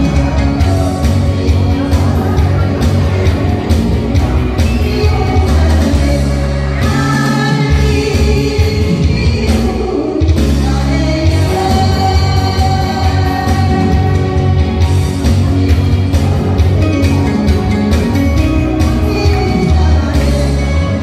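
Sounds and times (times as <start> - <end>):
backing track with steady beat: 0.0 - 21.0
woman singing into microphone: 0.0 - 21.0.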